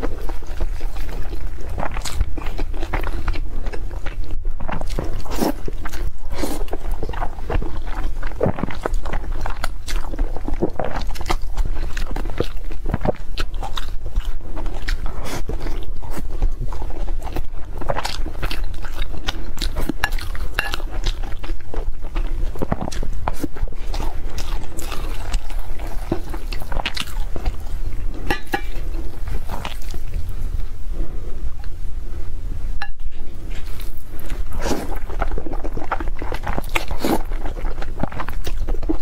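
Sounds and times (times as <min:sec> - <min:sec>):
wet chewing and lip smacking: 0:00.0 - 0:30.7, 0:32.8 - 0:39.0
steady low hum: 0:00.0 - 0:39.0.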